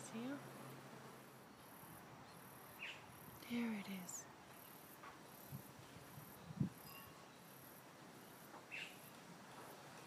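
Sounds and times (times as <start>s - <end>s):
faint insect sound: 0.0s - 10.0s.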